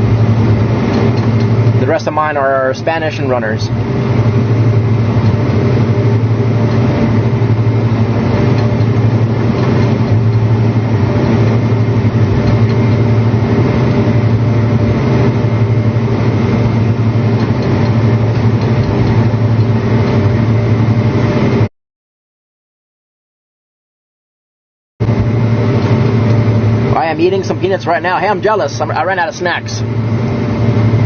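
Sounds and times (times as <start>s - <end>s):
tractor diesel engine drone: 0.0s - 21.7s, 25.0s - 31.0s.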